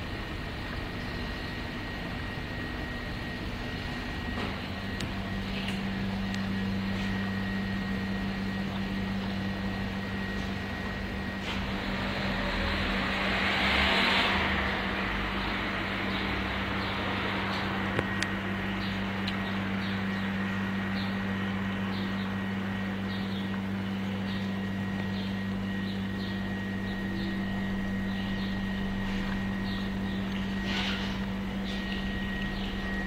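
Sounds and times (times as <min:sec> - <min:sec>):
low hum: 0:00.0 - 0:33.0
vending machines humming: 0:00.0 - 0:33.0.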